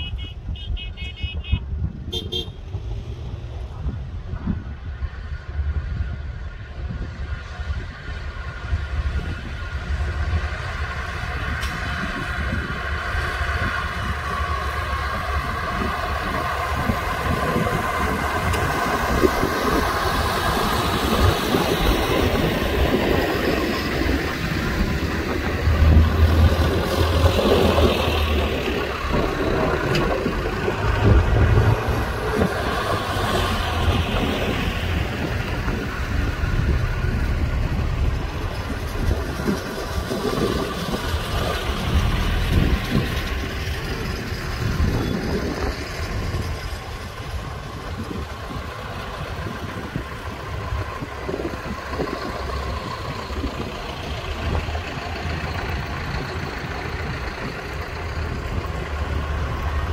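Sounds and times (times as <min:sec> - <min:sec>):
tractor diesel engines rumbling: 0:00.0 - 0:59.9.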